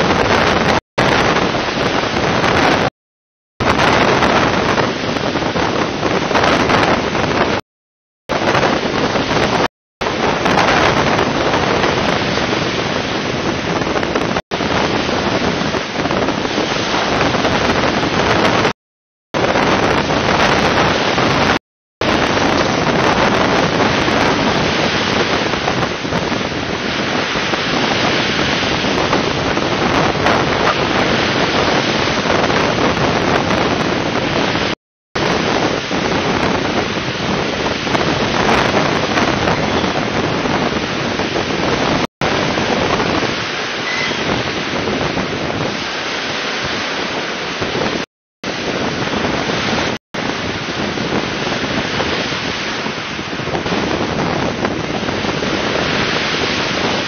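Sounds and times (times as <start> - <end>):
wind buffeting microphone: 0.0 - 2.9, 3.6 - 7.6, 8.3 - 18.7, 19.4 - 57.0.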